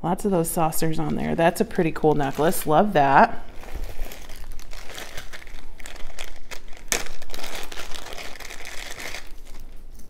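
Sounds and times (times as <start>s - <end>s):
plastic bag crinkling: 0.8s - 10.0s.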